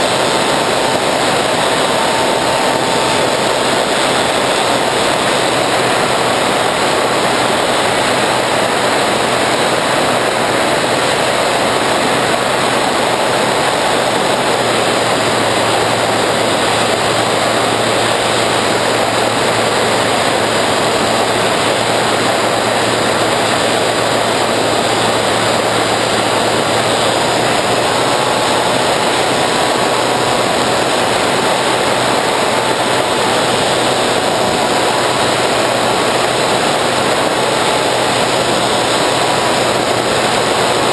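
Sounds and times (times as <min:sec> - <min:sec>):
electric motor and propeller drone: 0:00.0 - 0:40.9.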